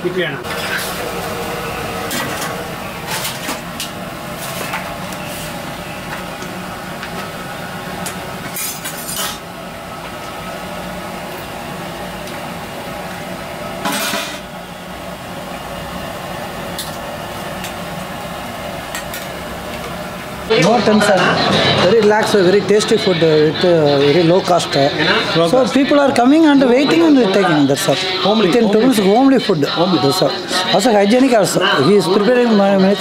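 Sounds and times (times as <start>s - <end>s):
steady background noise: 0.0s - 33.0s.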